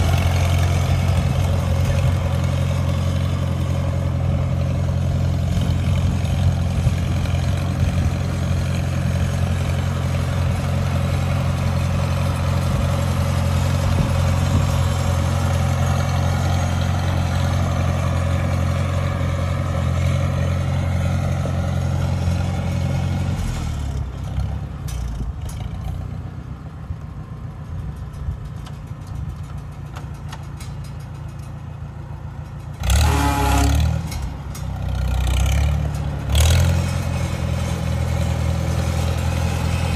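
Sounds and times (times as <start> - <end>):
tractor engine running and revving: 0.0 - 39.9.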